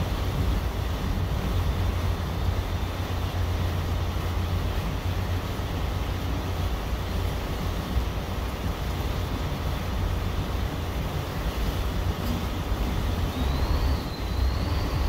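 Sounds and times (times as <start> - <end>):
boat engine rumble: 0.0 - 15.0
water noise: 0.0 - 15.0.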